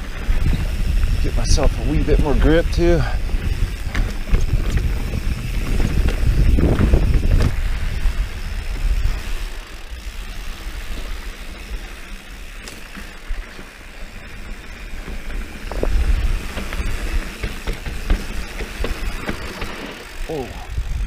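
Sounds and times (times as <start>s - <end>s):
wind buffeting microphone: 0.0s - 12.5s, 14.2s - 21.0s
bike clicks and rattles: 0.0s - 21.0s
bike tyres rumbling over dirt: 0.0s - 21.0s.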